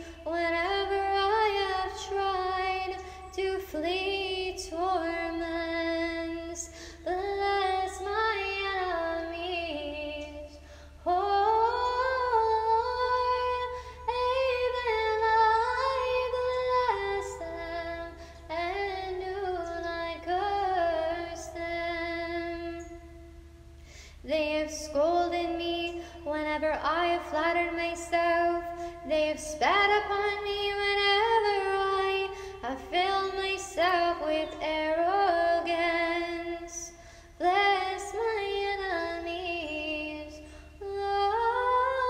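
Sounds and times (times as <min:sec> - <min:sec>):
woman singing chant: 0:00.0 - 0:23.3, 0:24.2 - 0:42.0.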